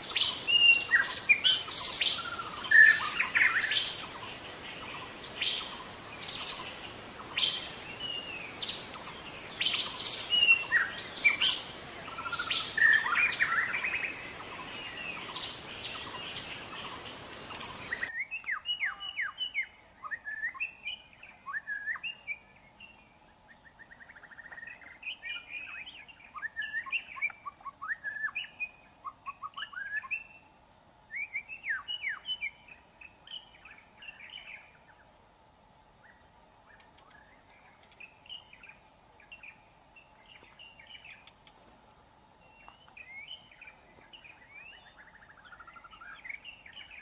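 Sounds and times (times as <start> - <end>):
bird singing whistled notes and trills: 0.0 - 35.2, 36.0 - 41.6, 42.3 - 47.0.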